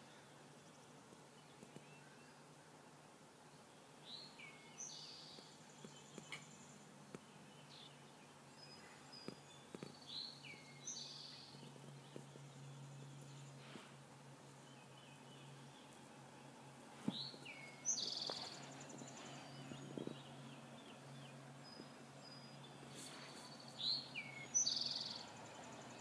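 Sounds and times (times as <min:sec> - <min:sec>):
faint songbird singing: 0:00.0 - 0:26.0
low steady hum: 0:00.0 - 0:26.0.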